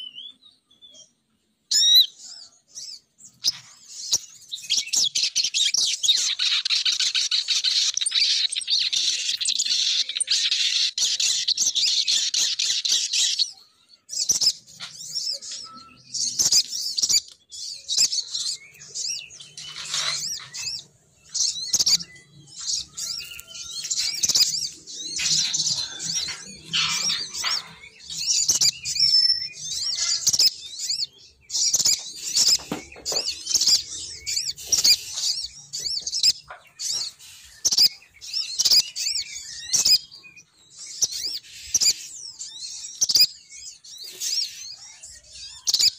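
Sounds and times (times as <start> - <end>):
bird chirping and twittering: 0.0 - 45.9.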